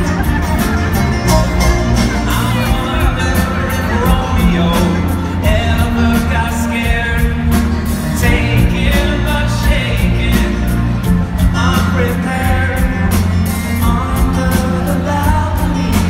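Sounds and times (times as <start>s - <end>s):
acoustic guitar: 0.0s - 16.0s
banjo: 0.0s - 16.0s
drums: 0.0s - 16.0s
lead vocal singing: 1.4s - 16.0s.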